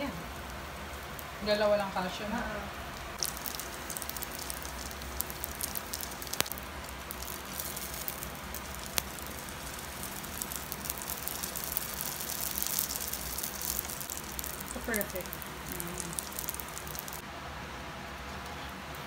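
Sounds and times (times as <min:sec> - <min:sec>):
oil sizzling and crackling: 0:00.0 - 0:17.3.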